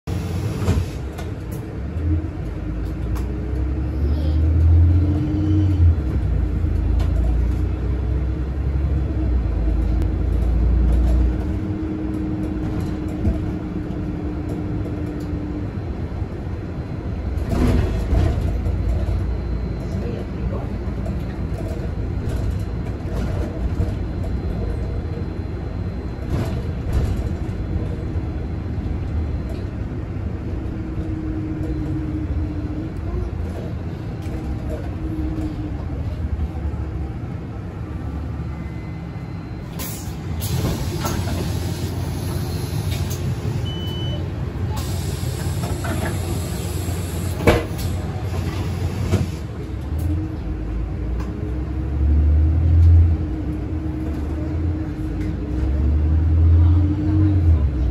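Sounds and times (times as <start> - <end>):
bus engine rumble: 0.0 - 57.9.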